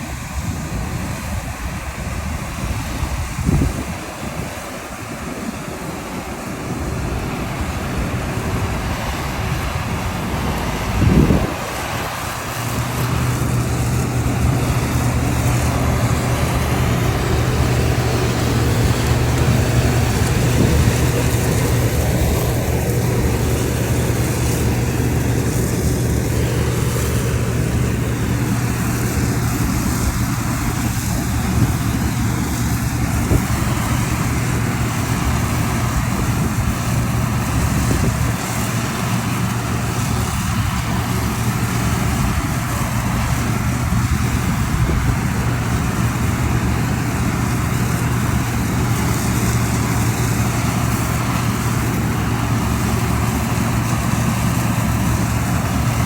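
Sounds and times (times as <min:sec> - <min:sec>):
harvesting machine engine droning: 0:00.0 - 0:56.0.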